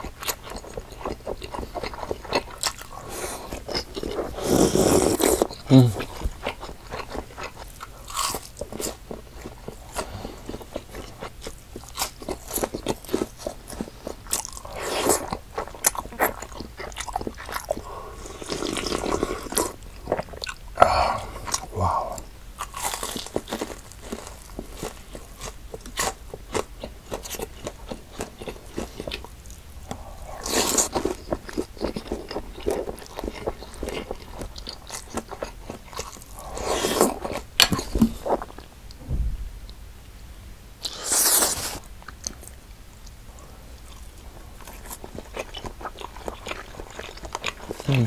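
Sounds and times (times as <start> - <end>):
chewing and crunching fried snack: 0.0 - 38.7, 40.8 - 48.0.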